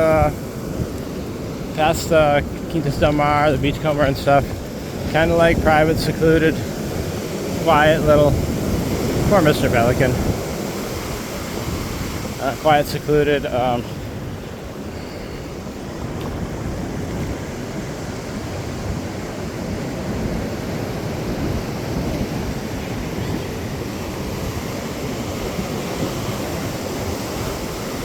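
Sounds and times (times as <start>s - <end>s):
surf washing onto beach: 0.0s - 28.0s
wind on microphone: 0.0s - 28.0s.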